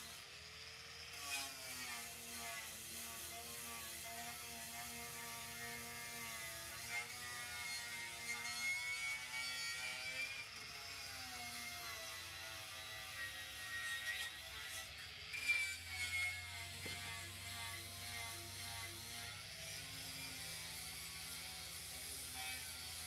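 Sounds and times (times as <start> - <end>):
electric power tool motor running: 0.0 - 8.2, 9.2 - 23.0.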